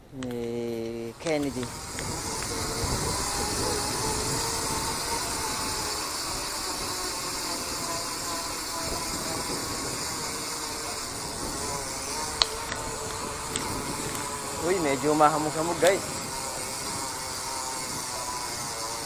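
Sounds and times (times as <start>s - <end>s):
bicycle road noise: 0.0s - 19.0s
rushing wind: 0.0s - 19.0s.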